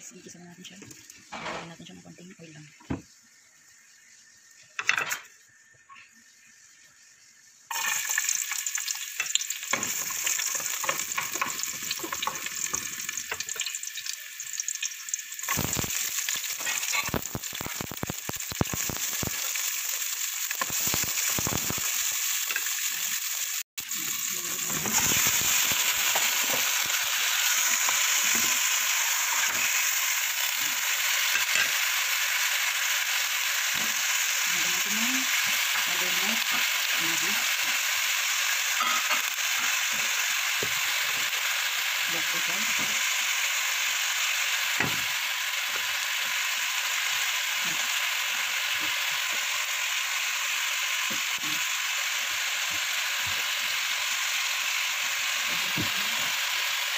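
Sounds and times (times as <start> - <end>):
vegetables sizzling in hot oil: 0.0 - 56.9.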